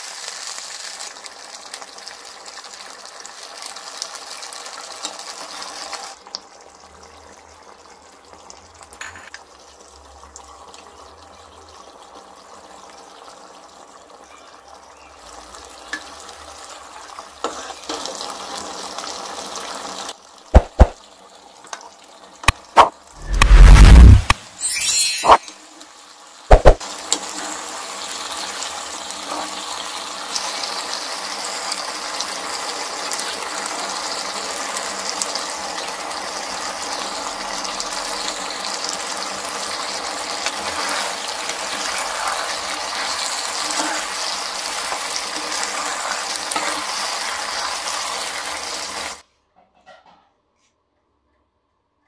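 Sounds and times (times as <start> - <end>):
gravy sizzling in a pan: 0.0 - 23.9, 25.6 - 49.2.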